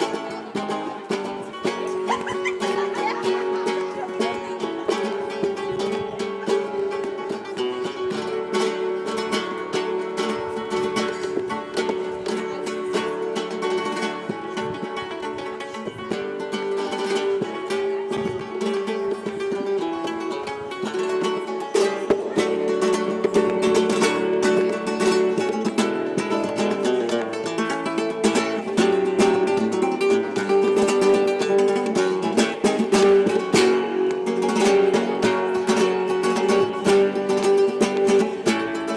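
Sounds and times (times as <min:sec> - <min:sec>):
guitar music: 0:00.0 - 0:38.9.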